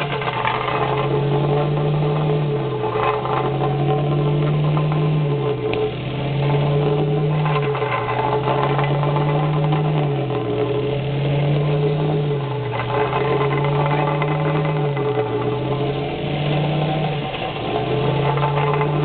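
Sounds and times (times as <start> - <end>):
plate compactor engine rattling: 0.0 - 19.0.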